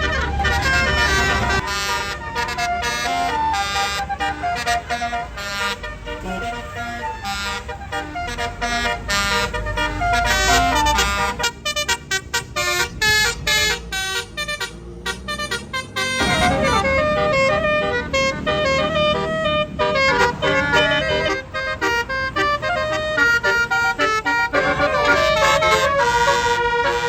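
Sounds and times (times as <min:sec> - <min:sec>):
low engine rumble: 0:00.0 - 0:27.0
musical horn playing a tune: 0:00.0 - 0:27.0.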